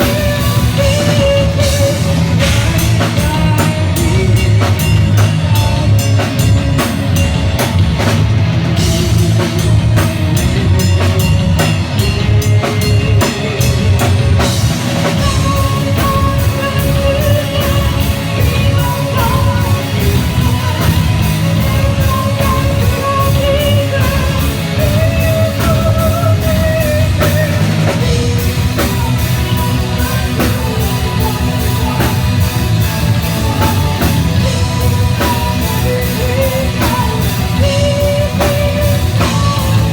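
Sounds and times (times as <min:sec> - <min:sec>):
drum kit playing fast: 0:00.0 - 0:39.9
electric guitars: 0:00.0 - 0:39.9.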